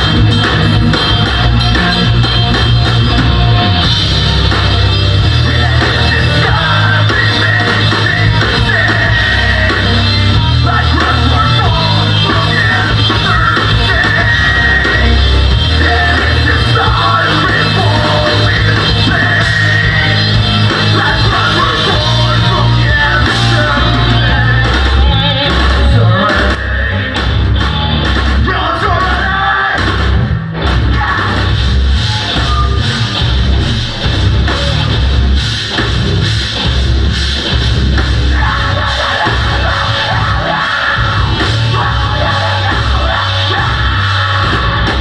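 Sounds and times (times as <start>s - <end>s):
bass guitar: 0.0s - 45.0s
distorted electric guitars: 0.0s - 45.0s
drums: 0.0s - 45.0s.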